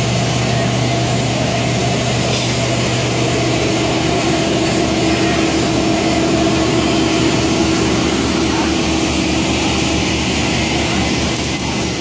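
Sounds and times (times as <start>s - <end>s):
industrial machine drone: 0.0s - 12.0s.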